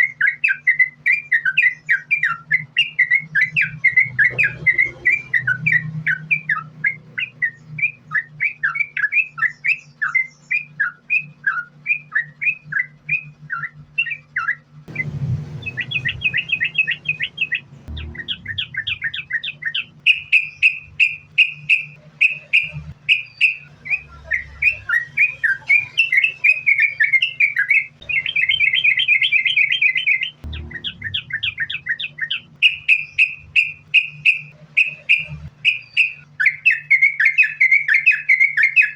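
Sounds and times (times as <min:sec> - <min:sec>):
bird chirping and trilling: 0:00.0 - 0:38.9
low hum: 0:00.8 - 0:09.0, 0:10.8 - 0:36.6.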